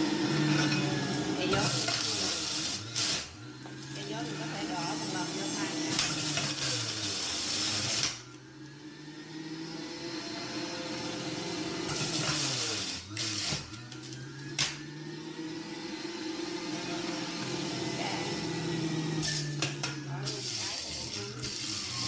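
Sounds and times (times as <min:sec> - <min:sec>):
juicer grinding fruit: 0:00.0 - 0:22.0
juicer motor hum: 0:00.0 - 0:22.0.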